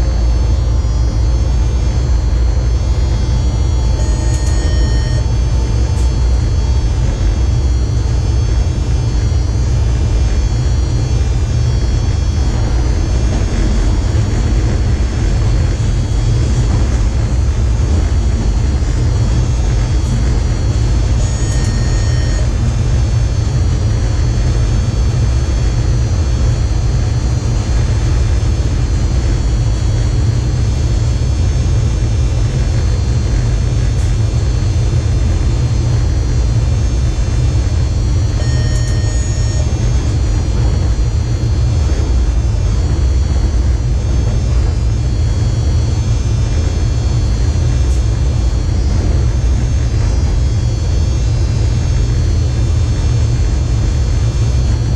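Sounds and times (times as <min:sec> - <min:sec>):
faint high whining tones: 0:00.0 - 0:54.9
train wheels rumbling on rails: 0:00.0 - 0:54.9.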